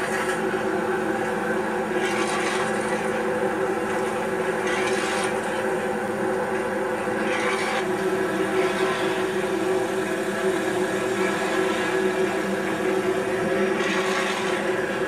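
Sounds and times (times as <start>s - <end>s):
mechanical drone: 0.0s - 15.0s.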